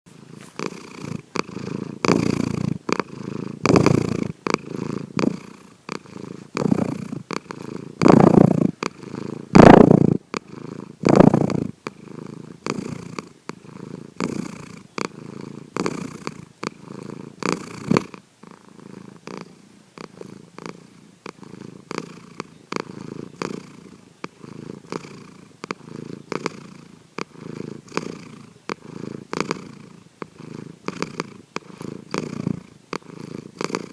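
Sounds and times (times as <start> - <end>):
cat snoring: 0.1 - 33.9.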